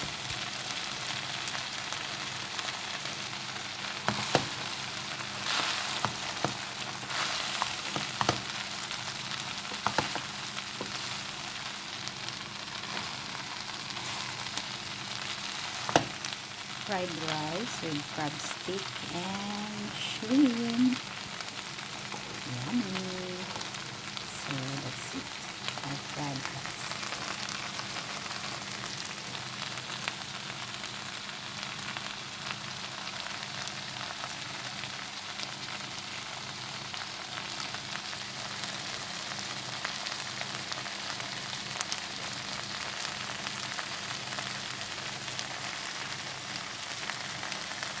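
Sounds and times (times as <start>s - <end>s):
rice sizzling in a hot pan: 0.0s - 48.0s.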